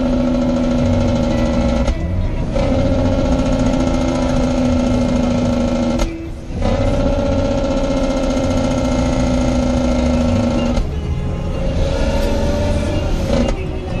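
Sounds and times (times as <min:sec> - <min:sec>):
car engine and road noise: 0:00.0 - 0:14.0
music from car stereo: 0:00.0 - 0:14.0.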